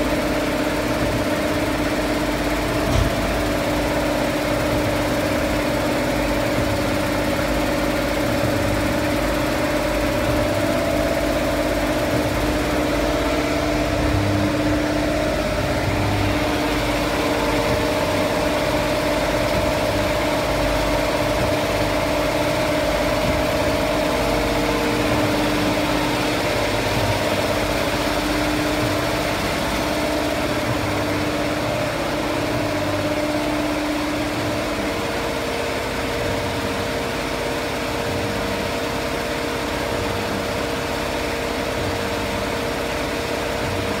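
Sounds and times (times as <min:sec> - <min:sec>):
quilting machine humming: 0:00.0 - 0:44.0.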